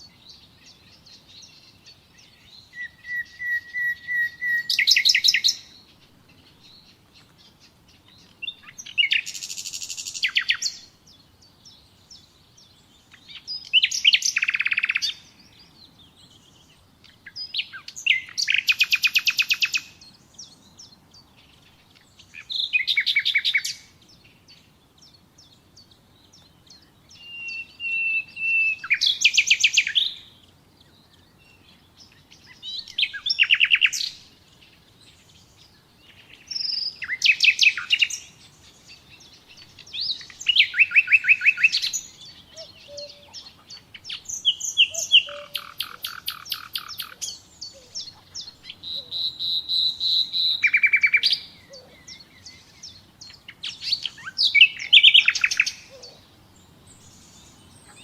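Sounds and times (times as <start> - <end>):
nightingale singing: 0.0 - 58.0.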